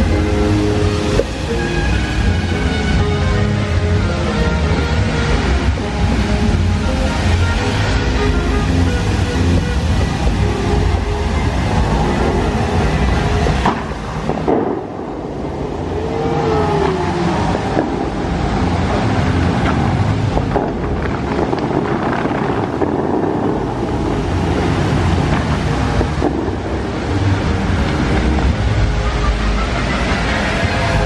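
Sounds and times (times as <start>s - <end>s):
water jets rushing: 0.0s - 31.0s
wind on microphone: 0.0s - 31.0s.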